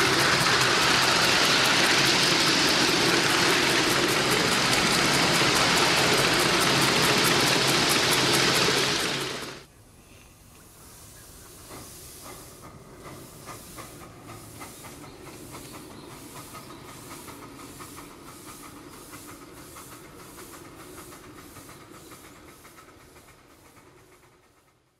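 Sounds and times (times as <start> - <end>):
model steam locomotive chuffing: 0.0 - 9.7, 11.2 - 24.9
steam hissing: 0.0 - 9.7, 10.8 - 24.9.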